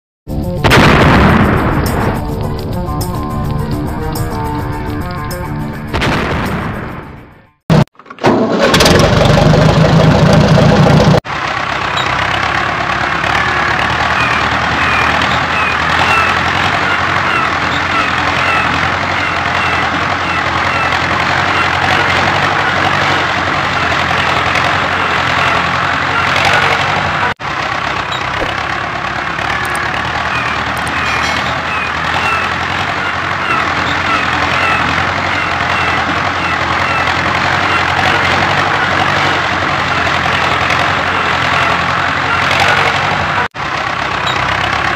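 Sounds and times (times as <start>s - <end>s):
tractor engine running: 0.3s - 44.9s.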